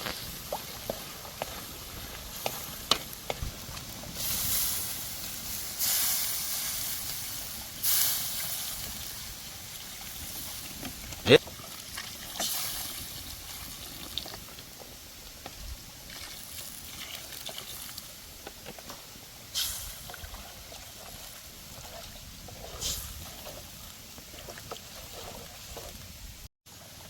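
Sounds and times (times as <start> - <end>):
river water trickling and sloshing: 0.0 - 27.0.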